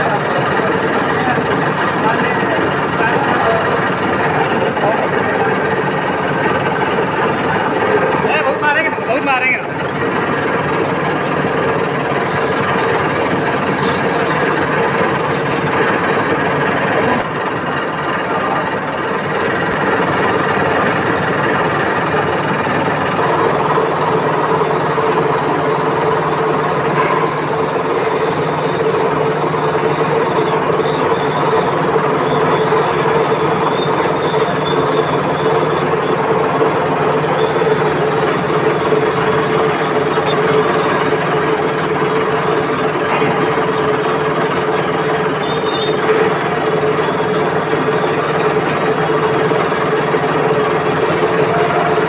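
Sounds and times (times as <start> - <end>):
lathe running and drilling: 0.0 - 52.0.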